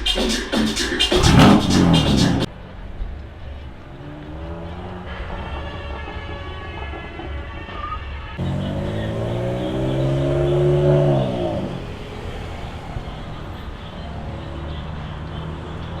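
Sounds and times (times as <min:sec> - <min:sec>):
car engine revving: 0:01.0 - 0:06.6, 0:08.4 - 0:16.0.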